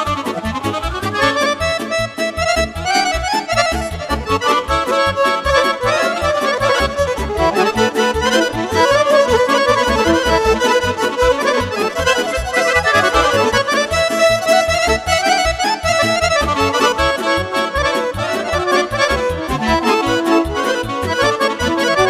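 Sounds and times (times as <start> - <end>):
accordion lead melody: 0.0 - 22.0
keyboard bass beat: 0.0 - 22.0
violin: 0.0 - 22.0.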